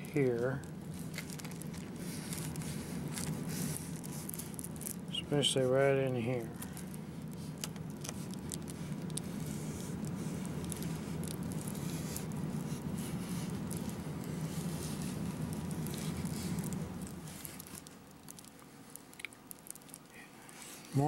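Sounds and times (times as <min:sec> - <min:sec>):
scratchy rustling and crackles: 0:00.0 - 0:21.0.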